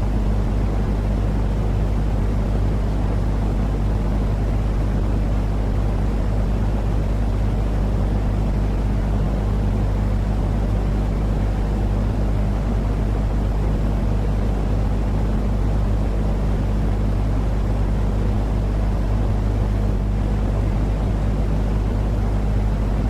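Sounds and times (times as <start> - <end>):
faint hum: 0.0 - 23.0
steady low rumbling noise: 0.0 - 23.0.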